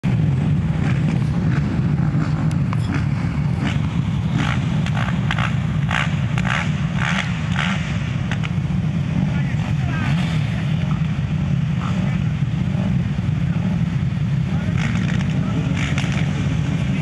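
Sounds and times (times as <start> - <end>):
quad engines droning: 0.0 - 17.0.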